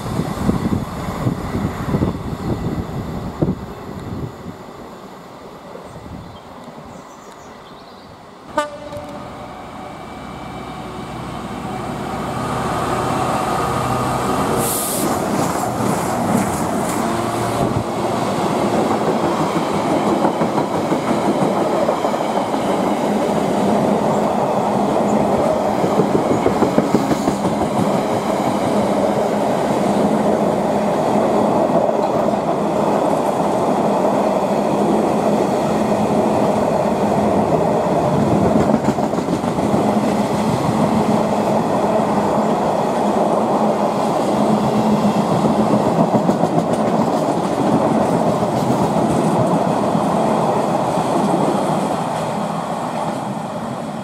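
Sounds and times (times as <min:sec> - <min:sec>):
train wheels rumbling on rail: 0:00.0 - 0:07.8, 0:08.4 - 0:54.0.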